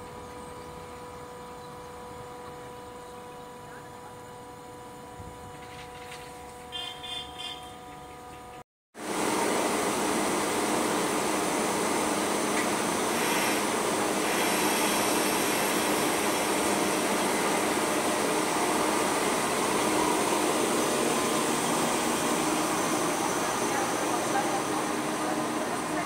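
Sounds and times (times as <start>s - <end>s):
train cooling fans whirring: 0.0s - 26.0s.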